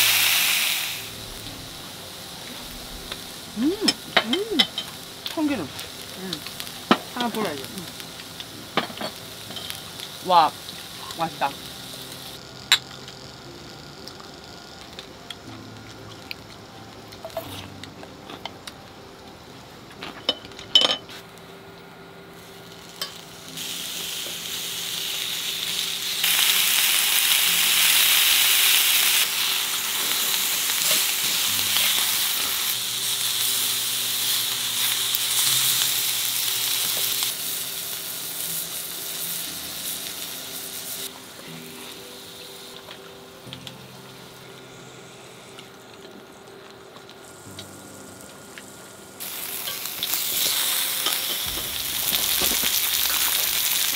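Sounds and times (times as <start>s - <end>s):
meat sizzling on grill pan: 0.0s - 21.0s, 22.3s - 53.9s.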